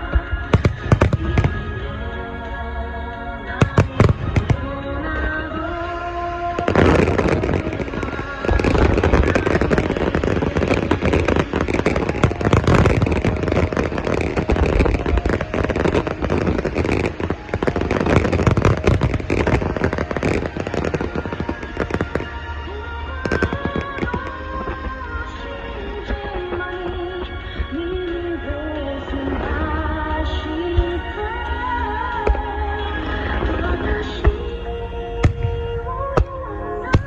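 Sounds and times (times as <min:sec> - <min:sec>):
fireworks bursting and crackling: 0:00.0 - 0:02.1, 0:03.6 - 0:37.0
music: 0:00.0 - 0:37.0.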